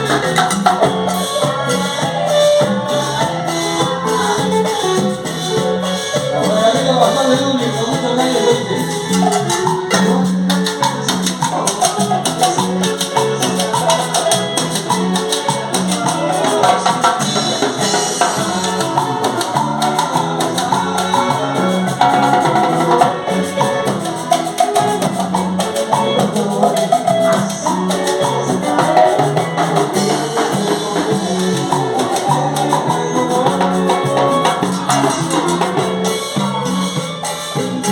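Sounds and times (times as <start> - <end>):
salsa music: 0.0 - 37.9.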